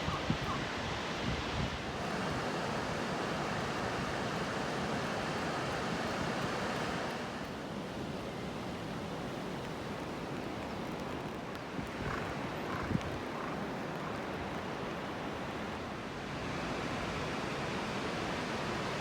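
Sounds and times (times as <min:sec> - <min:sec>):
steady rain falling: 0:01.1 - 0:19.0.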